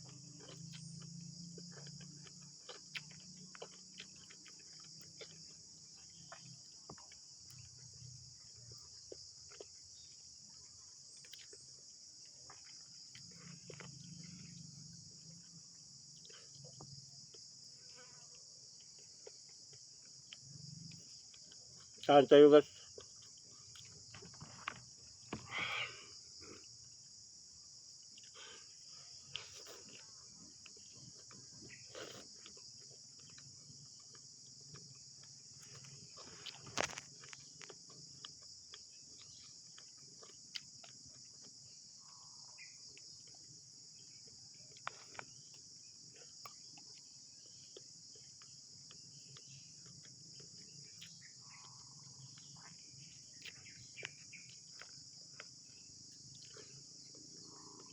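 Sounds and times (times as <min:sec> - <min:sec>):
crickets chirping: 0:00.0 - 0:57.9.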